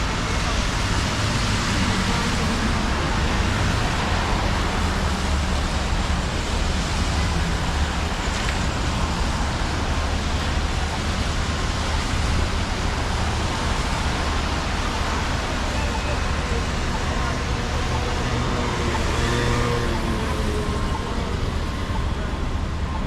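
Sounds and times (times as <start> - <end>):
tyres hissing on wet road: 0.0 - 23.0.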